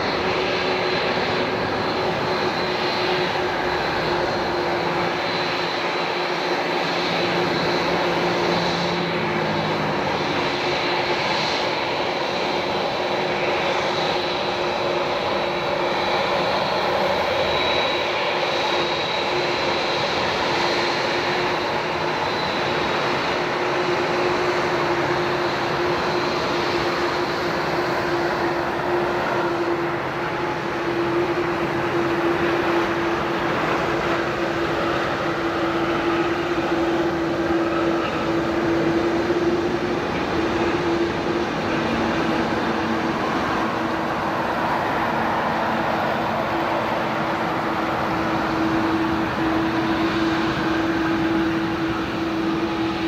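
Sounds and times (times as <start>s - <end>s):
jet airliner engines whining: 0.0s - 53.0s.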